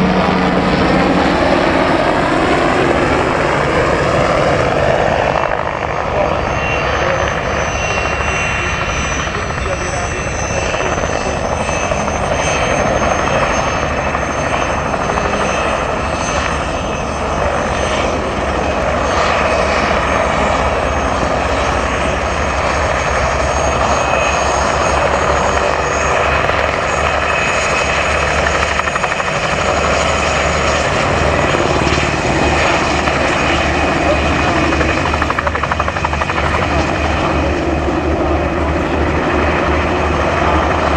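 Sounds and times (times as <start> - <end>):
helicopter engine whine: 0.0 - 40.9
helicopter rotor chop: 0.0 - 40.9.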